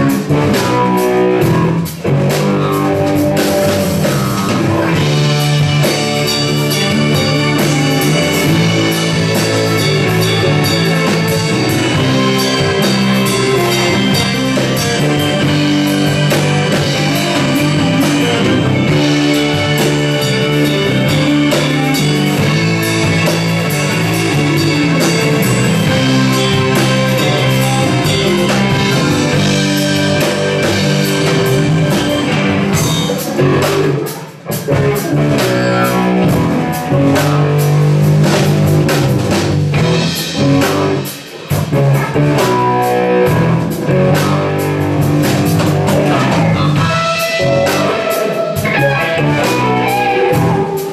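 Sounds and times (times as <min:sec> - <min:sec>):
bass guitar: 0:00.0 - 0:50.9
drum kit: 0:00.0 - 0:50.9
electric guitars: 0:00.0 - 0:50.9.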